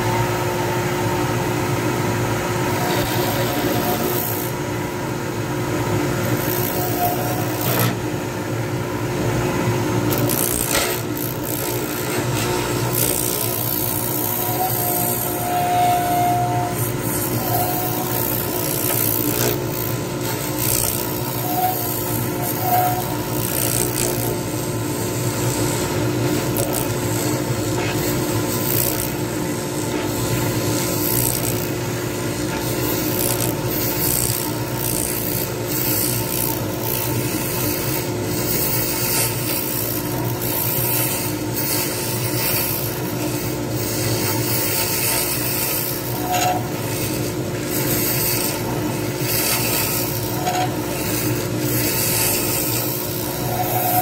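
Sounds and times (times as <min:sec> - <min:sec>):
lathe motor humming: 0:00.0 - 0:54.0
turning tool scraping: 0:02.7 - 0:04.6, 0:06.1 - 0:08.0, 0:10.1 - 0:54.0.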